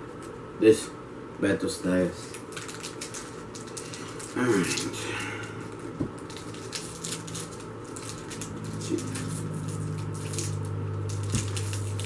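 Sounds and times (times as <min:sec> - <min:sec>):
low steady hum: 0:00.0 - 0:12.0
foil wrapper crinkling and tearing: 0:02.2 - 0:12.0.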